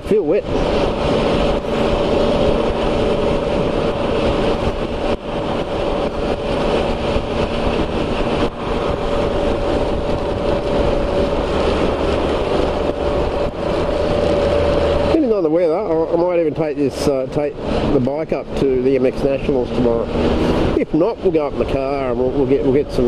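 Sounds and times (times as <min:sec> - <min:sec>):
wind rushing: 0:00.0 - 0:18.6
engine drone: 0:00.0 - 0:23.0.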